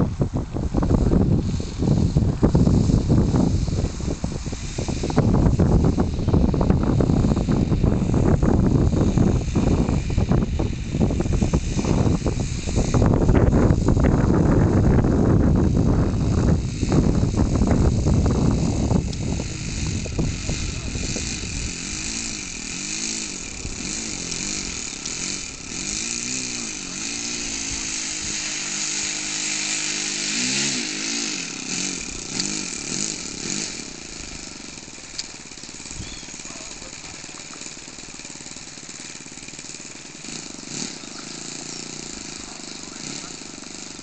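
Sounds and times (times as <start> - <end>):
small model plane engine revving: 0.0 - 44.0.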